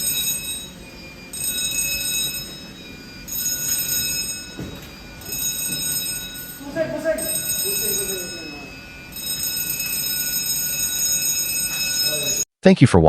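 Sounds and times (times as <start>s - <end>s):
electric alarm bell ringing: 0.0s - 12.5s.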